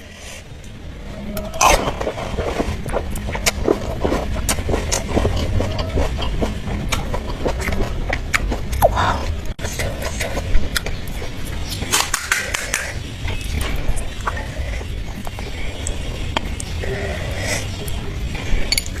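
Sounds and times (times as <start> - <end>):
crunching and chewing: 1.4 - 19.0.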